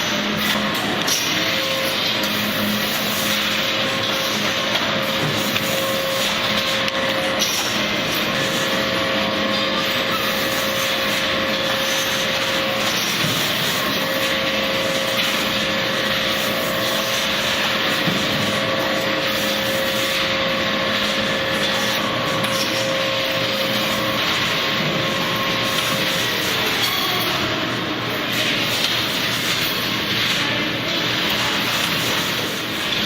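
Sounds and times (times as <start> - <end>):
machinery rushing noise: 0.0 - 33.0
machinery whine: 0.0 - 33.0.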